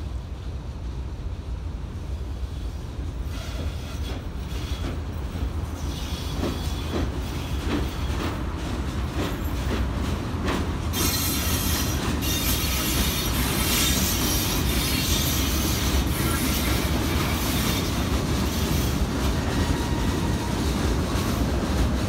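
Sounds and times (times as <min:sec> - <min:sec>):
freight train rumble: 0:00.0 - 0:22.0
wheels clacking over rail joints: 0:03.3 - 0:22.0.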